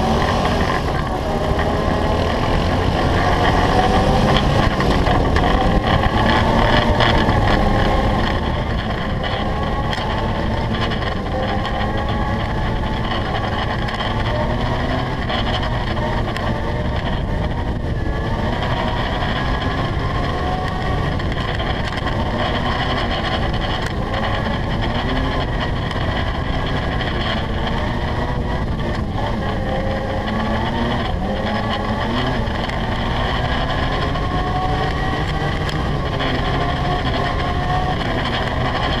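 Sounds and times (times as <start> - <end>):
atv engine running: 0.0 - 39.0
dense steady rumble: 0.0 - 39.0.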